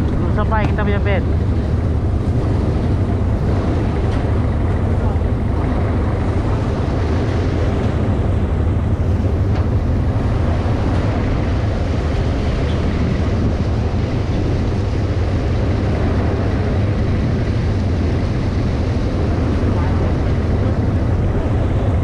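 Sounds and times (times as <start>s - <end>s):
boat engines running: 0.0s - 22.0s
water churning at hull: 0.0s - 22.0s
wind buffeting microphone: 0.0s - 22.0s.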